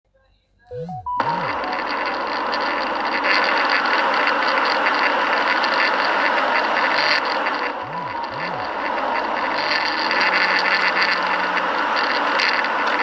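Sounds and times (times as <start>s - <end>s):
vehicle and road noise: 1.2s - 13.0s.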